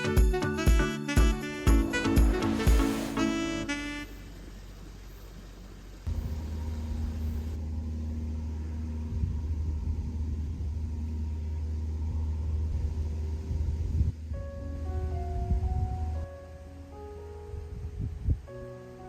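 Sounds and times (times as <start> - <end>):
steady low rumble: 1.7 - 19.0.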